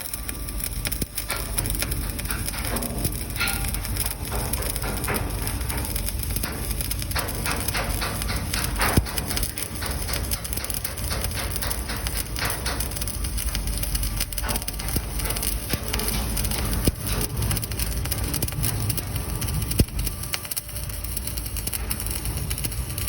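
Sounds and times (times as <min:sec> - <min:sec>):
welding arc crackling: 0:00.0 - 0:23.0.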